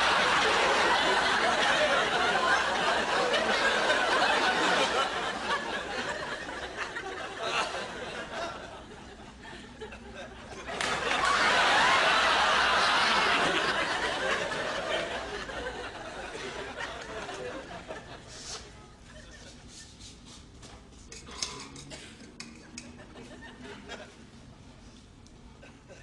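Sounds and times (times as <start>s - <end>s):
audience laughing: 0.0s - 19.9s, 22.8s - 24.2s.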